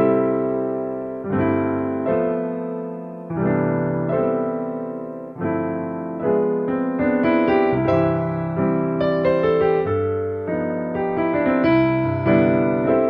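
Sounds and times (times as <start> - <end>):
slow keyboard chords: 0.0 - 13.0.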